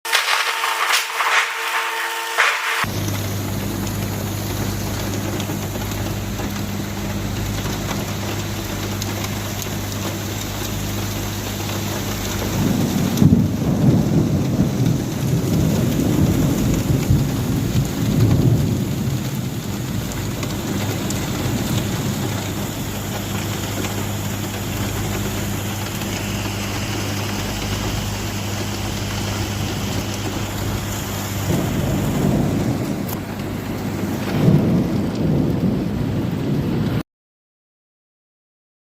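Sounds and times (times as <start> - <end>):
heavy rain: 0.0 - 37.0
rolling thunder: 0.1 - 37.0.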